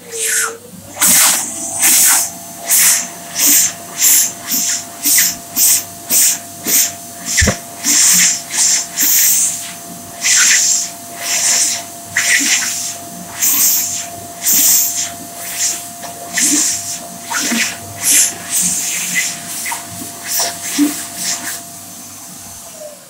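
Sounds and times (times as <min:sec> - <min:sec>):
hand dryer blowing: 0:00.0 - 0:23.0.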